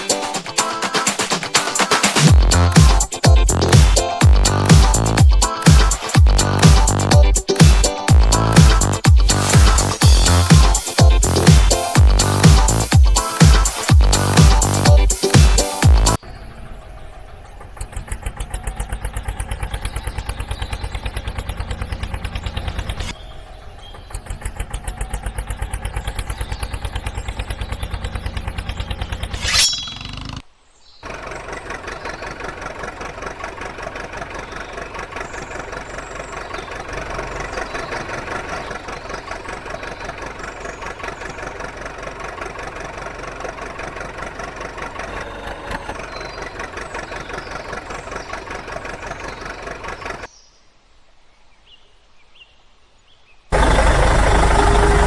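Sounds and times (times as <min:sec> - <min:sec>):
engine chugging: 0:00.0 - 0:30.4, 0:31.0 - 0:50.3, 0:53.6 - 0:55.0.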